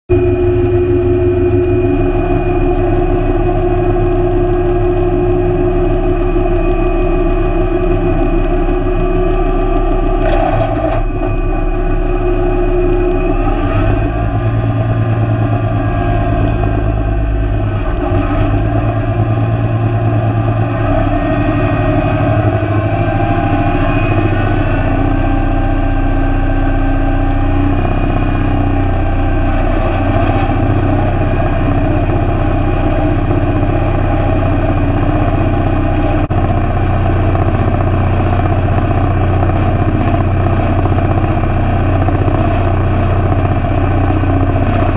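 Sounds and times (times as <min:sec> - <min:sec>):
tractor engine running: 0:00.1 - 0:44.9.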